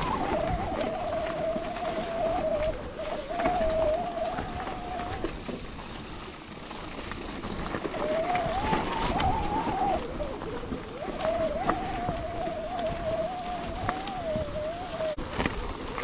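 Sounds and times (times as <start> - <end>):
wavering whine: 0.0 - 6.4, 7.6 - 15.2.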